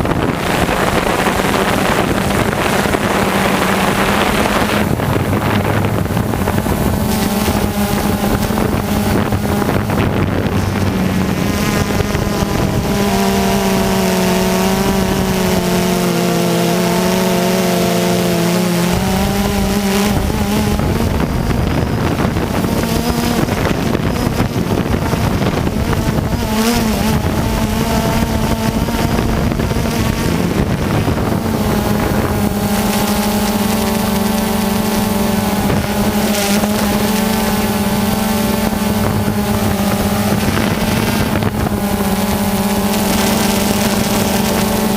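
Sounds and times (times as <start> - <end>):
model engine whining: 0.0 - 44.9.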